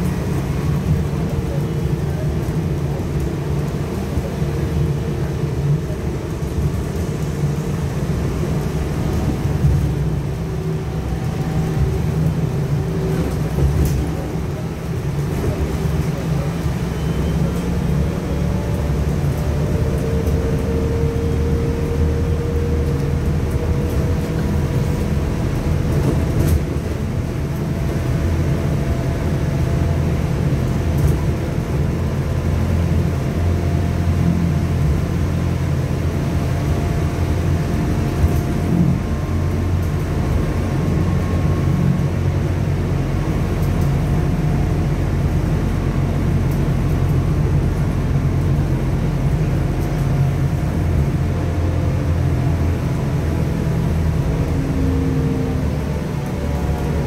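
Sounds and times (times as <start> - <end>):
low rumble of tyres and body: 0.0 - 57.0.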